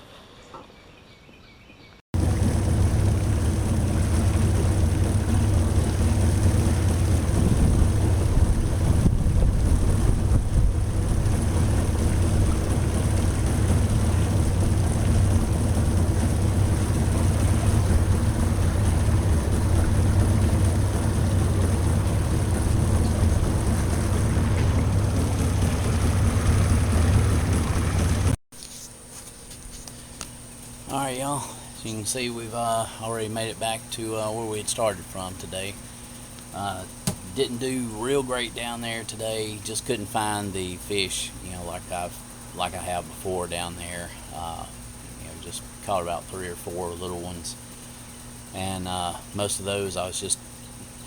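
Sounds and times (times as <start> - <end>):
outboard motor running: 2.2 - 28.4, 29.8 - 51.0.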